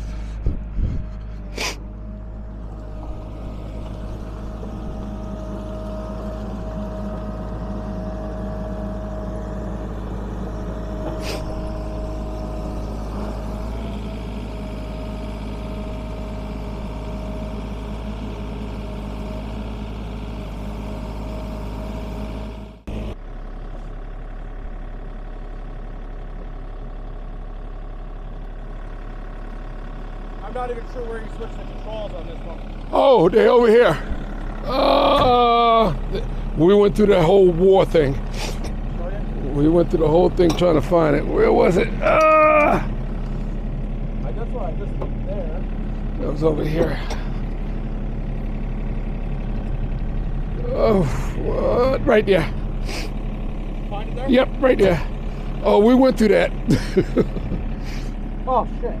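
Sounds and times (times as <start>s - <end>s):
excavator diesel engine idling: 0.0s - 59.0s.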